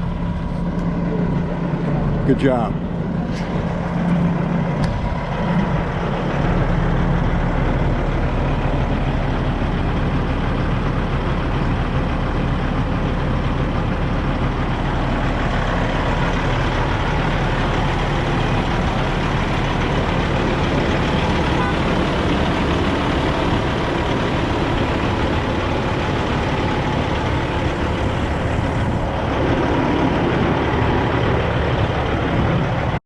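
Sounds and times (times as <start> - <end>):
heavy vehicle engine running: 0.0 - 33.0.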